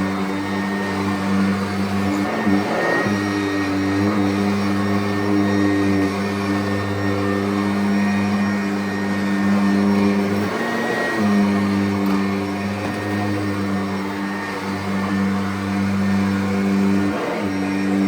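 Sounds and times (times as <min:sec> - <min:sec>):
vacuum cleaner motor humming: 0:00.0 - 0:18.0.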